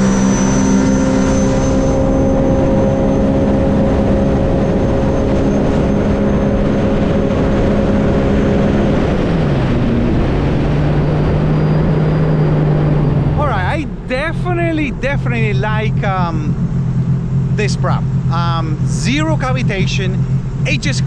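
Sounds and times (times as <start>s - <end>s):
watercraft engine revving: 0.0s - 21.0s.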